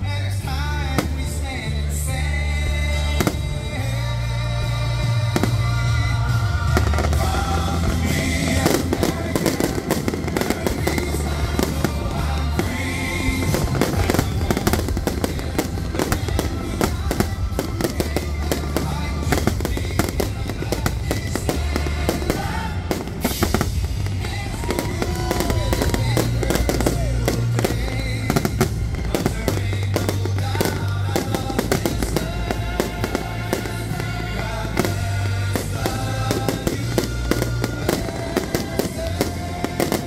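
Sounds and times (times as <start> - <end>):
fireworks bangs and crackles: 0.0 - 40.0
music with heavy bass: 0.0 - 40.0.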